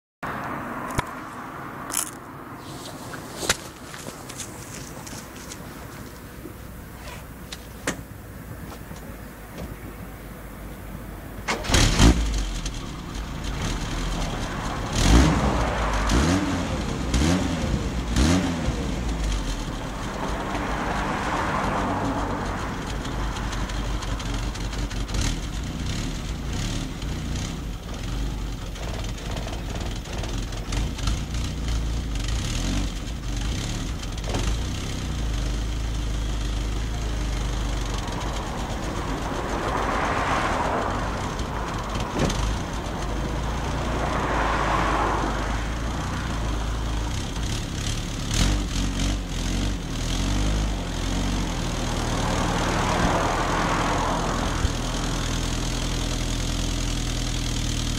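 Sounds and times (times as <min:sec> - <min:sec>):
car engine idling: 0:02.7 - 0:57.9.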